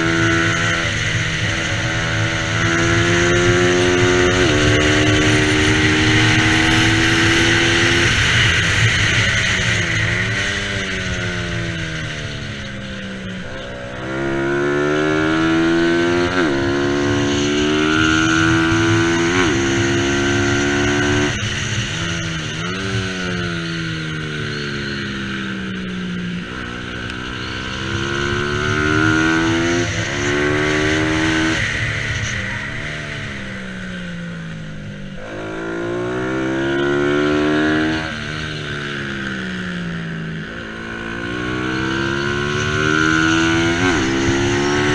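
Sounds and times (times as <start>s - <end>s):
motorcycle engine revving through gears: 0.0s - 44.9s.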